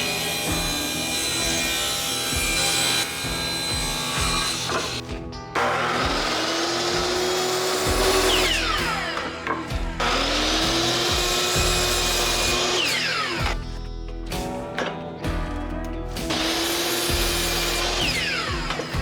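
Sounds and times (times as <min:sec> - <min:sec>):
electric saw cutting wood: 0:00.0 - 0:13.8, 0:16.1 - 0:19.0.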